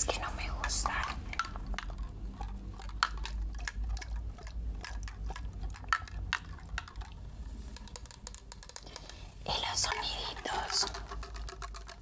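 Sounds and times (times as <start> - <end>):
faint steady hum: 0.0 - 12.0
water splashes and clicks: 0.1 - 12.0.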